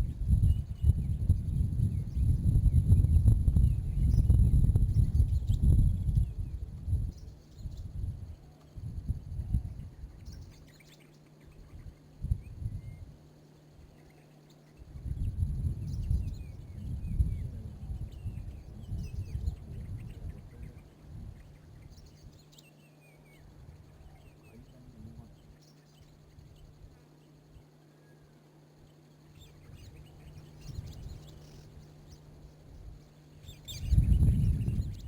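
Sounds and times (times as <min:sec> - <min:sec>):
bird calls: 0:00.0 - 0:35.0.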